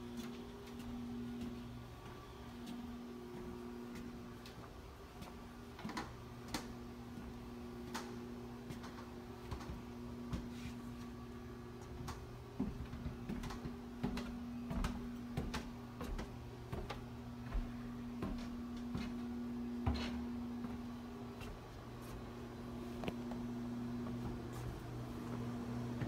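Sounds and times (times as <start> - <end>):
footsteps on wooden boardwalk: 0.0 - 11.2, 11.8 - 26.0
low hum: 0.0 - 26.0.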